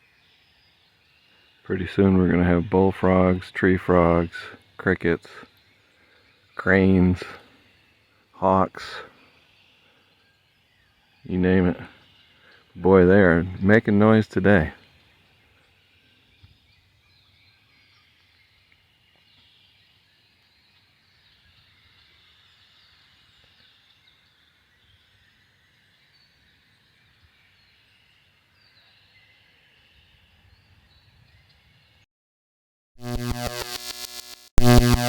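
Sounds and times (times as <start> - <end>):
chorus of birds chirping: 0.0 - 32.0.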